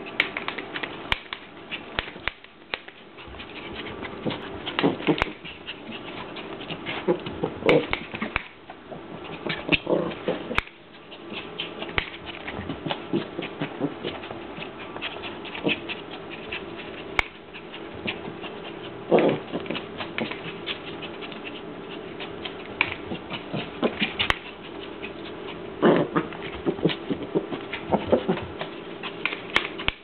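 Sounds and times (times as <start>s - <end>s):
paws and lead scuffling: 0.0s - 30.0s.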